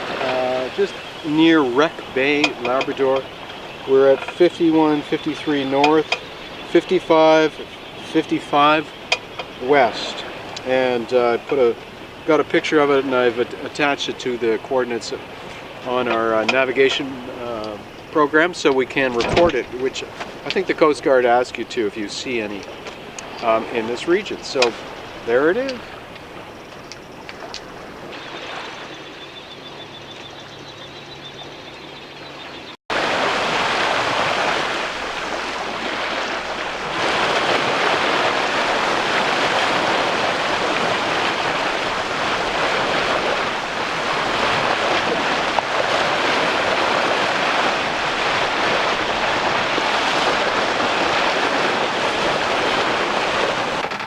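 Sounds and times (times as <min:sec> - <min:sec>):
rush of water and wind: 0:00.0 - 0:54.0.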